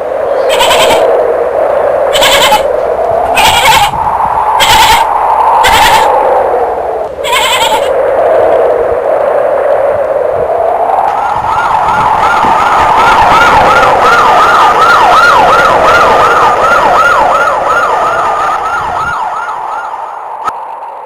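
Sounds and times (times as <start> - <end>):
siren wailing in fast yelp: 0.2 - 20.3.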